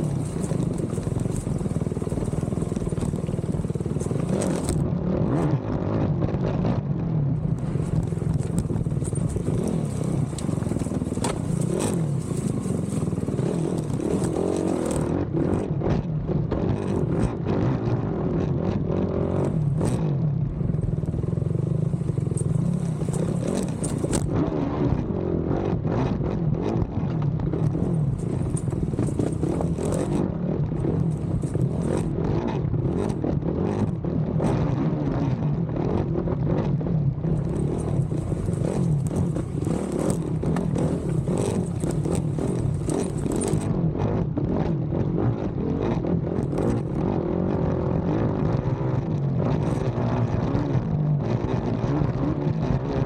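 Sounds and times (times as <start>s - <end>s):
quad engine revving: 0.0s - 16.1s, 16.7s - 50.8s
knocks and clatter over rough ground: 0.0s - 53.0s.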